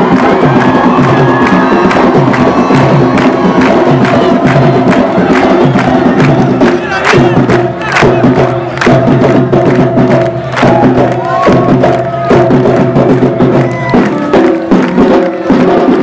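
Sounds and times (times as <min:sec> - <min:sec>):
melody over drums: 0:00.0 - 0:16.0
samba drums and percussion: 0:00.0 - 0:16.0.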